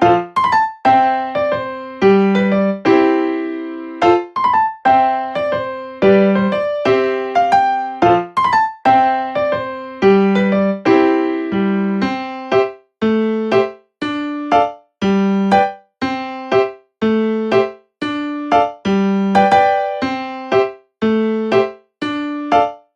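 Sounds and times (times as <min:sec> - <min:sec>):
slow keyboard notes and chords: 0:00.9 - 0:22.8.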